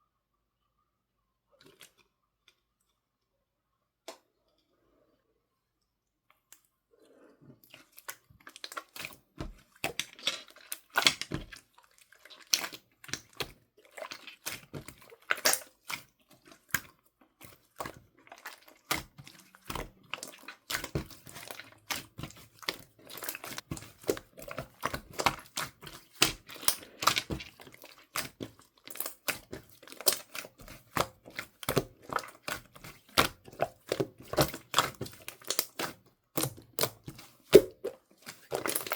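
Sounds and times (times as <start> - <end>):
slime squished by hands: 7.7 - 38.9.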